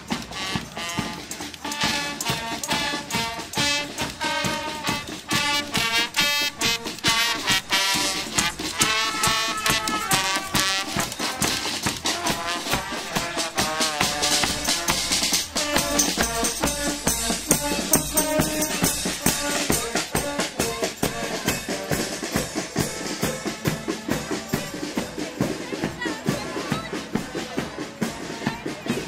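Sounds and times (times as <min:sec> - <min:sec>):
brass band playing: 0:00.0 - 0:29.0
drums beating march rhythm: 0:00.0 - 0:29.0.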